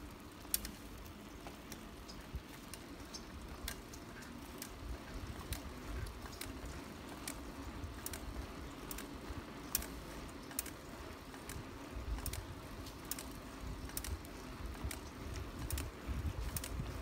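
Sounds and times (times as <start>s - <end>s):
bicycle rolling on wet path: 0.0s - 17.0s
wind rumbling on microphone: 1.9s - 17.0s.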